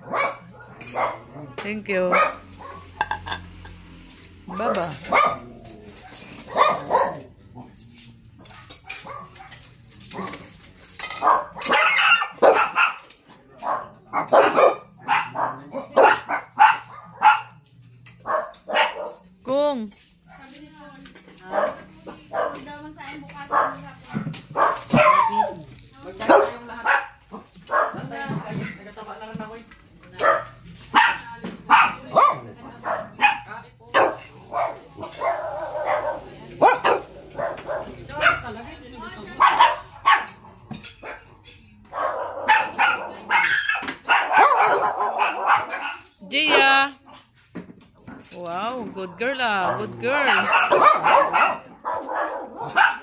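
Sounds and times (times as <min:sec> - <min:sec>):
small dogs barking: 0:00.0 - 0:03.1, 0:04.4 - 0:19.4, 0:21.4 - 0:28.2, 0:30.1 - 0:38.7, 0:39.3 - 0:47.3, 0:49.0 - 0:53.0.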